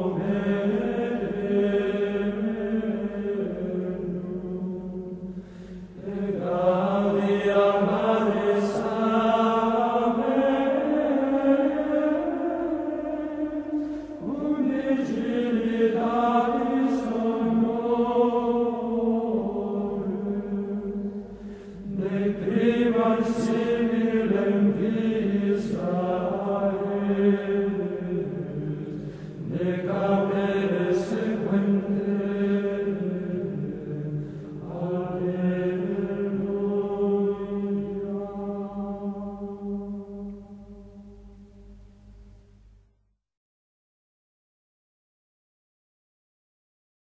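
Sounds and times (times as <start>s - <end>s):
voices chanting long held notes: 0.0s - 41.9s.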